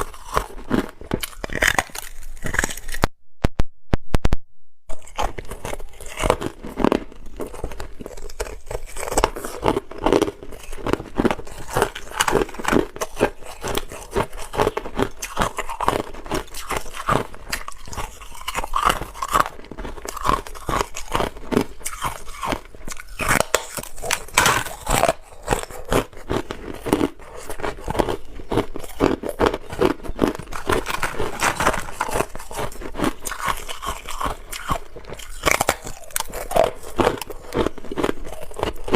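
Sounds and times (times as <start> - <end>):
ice crunching between teeth: 0.0 - 3.1, 4.9 - 38.9.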